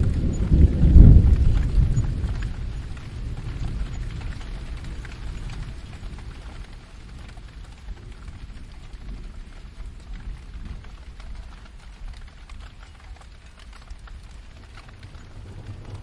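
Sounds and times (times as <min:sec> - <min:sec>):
distant thunder rumble: 0:00.0 - 0:16.0
steady rain pattering: 0:00.0 - 0:16.0.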